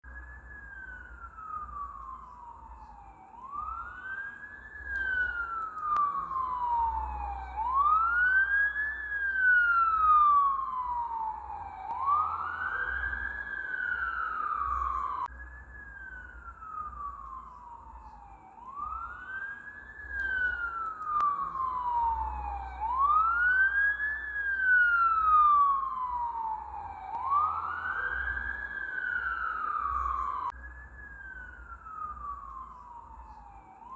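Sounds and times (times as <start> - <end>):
ambulance siren wailing: 0.0 - 33.9.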